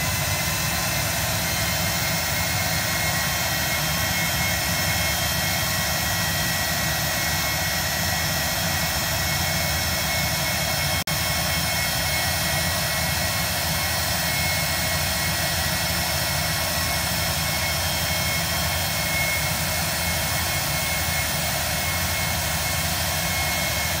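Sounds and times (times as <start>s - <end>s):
jet engine roaring with whine: 0.0s - 24.0s.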